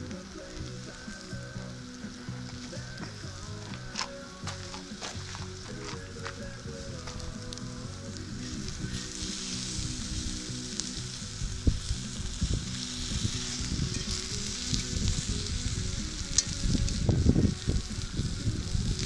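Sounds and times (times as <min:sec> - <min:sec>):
fish frying in a pan: 0:00.0 - 0:19.0.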